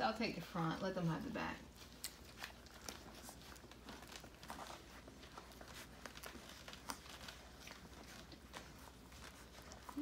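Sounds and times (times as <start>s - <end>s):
puppies suckling: 0.0s - 10.0s.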